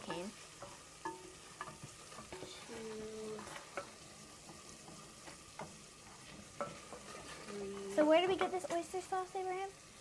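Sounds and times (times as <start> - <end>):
spoon scraping a pan: 0.0 - 8.8
onions sizzling in a pan: 0.0 - 10.0.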